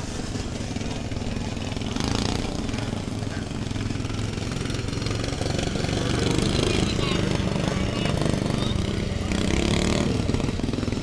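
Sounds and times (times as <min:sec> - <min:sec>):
lawn tractor engines buzzing: 0:00.0 - 0:11.0.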